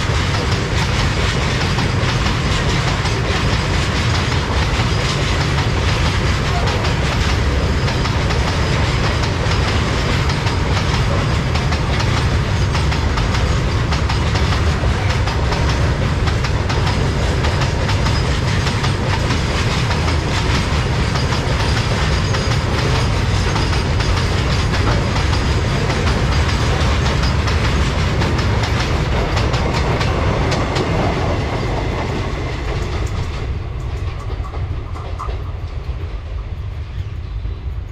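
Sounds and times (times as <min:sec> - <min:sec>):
wheels clicking over rail joints: 0:00.0 - 0:37.1
freight train rolling past: 0:00.0 - 0:37.9.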